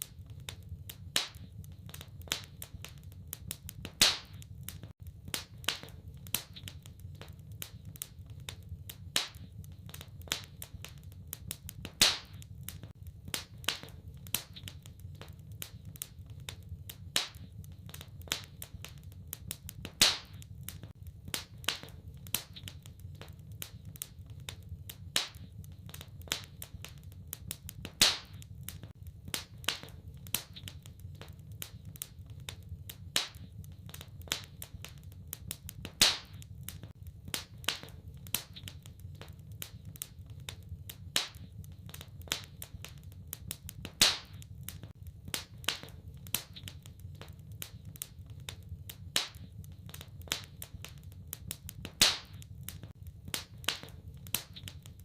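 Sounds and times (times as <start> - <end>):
sharp pops of fire: 0.0 - 55.0
wood fire crackling: 0.0 - 55.0.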